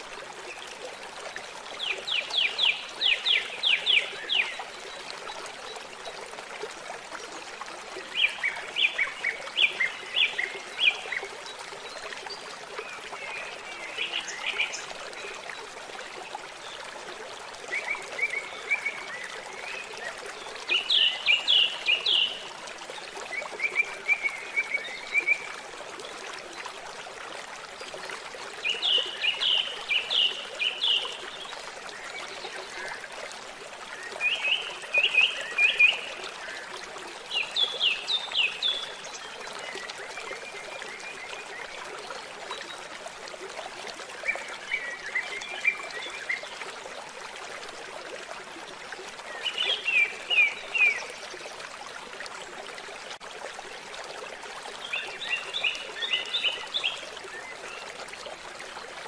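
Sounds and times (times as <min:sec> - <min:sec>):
trickle of running water: 0:00.0 - 0:59.0.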